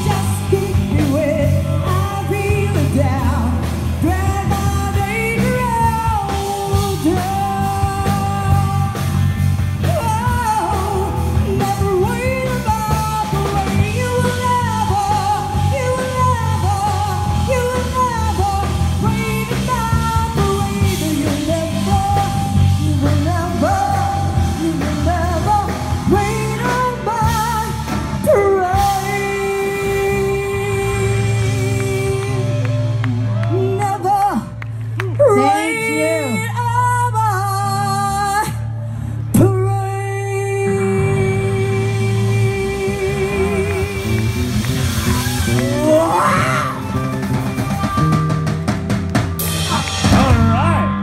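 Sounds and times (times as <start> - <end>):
woman singing rock song: 0.0 - 48.1
electric guitars: 0.0 - 51.0
low band accompaniment: 0.0 - 51.0.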